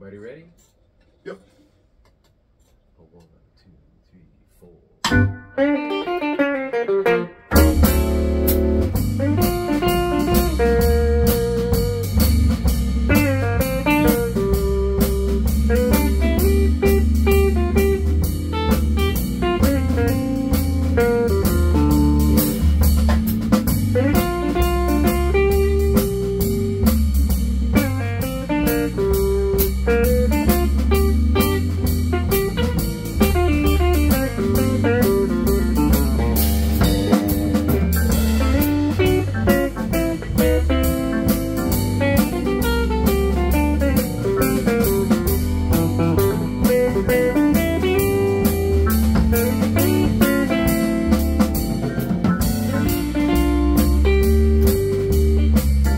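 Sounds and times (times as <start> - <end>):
blues-rock band playing: 5.0 - 55.9.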